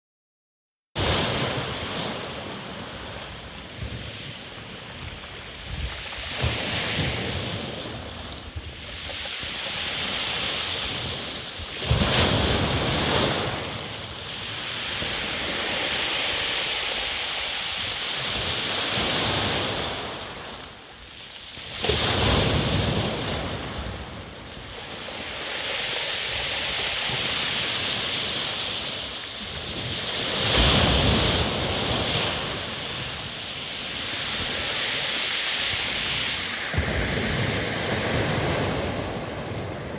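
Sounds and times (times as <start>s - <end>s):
sea surf breaking: 1.0s - 20.8s, 21.6s - 39.9s
wind rumbling on microphone: 1.0s - 39.9s.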